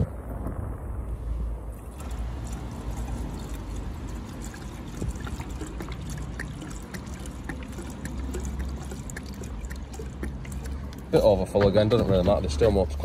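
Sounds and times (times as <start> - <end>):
liquid trickling into a tank: 1.7 - 13.0.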